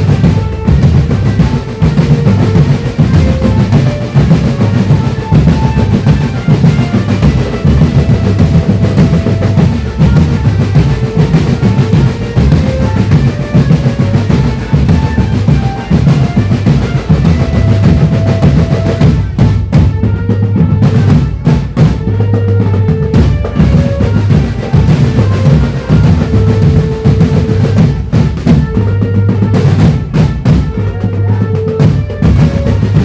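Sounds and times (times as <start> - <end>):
bass drums and snare drums: 0.0 - 33.0
marching drum band playing: 0.0 - 33.0.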